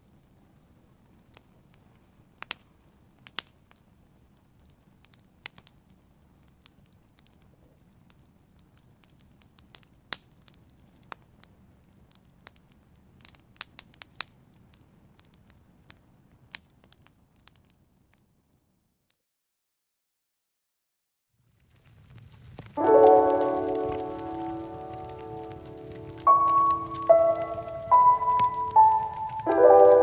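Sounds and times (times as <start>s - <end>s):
wood fire crackling: 0.0s - 18.7s, 21.4s - 30.0s.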